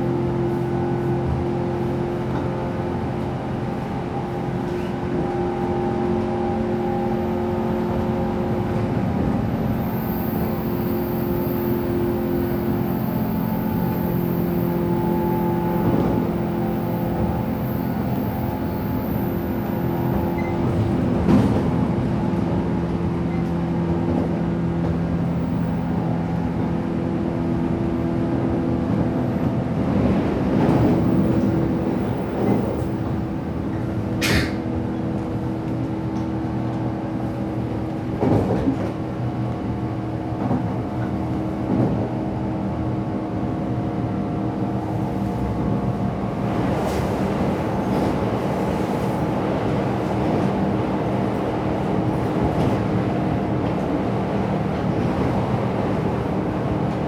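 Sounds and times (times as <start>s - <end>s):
train rumble and hum inside carriage: 0.0s - 57.0s.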